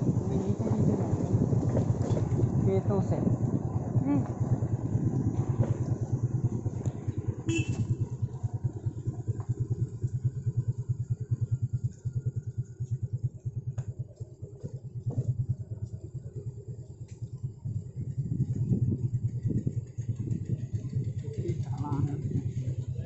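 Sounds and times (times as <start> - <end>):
motorcycle engine running at low revs: 0.0 - 23.0.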